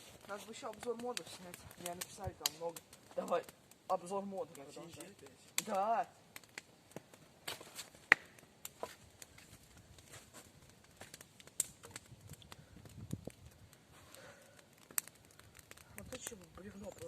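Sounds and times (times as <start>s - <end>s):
wood snapping and cracking: 0.0s - 17.0s.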